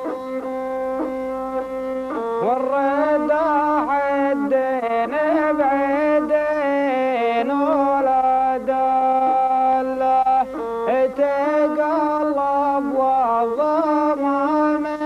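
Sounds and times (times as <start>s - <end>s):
bowed fiddle playing folk melody: 0.0s - 15.0s.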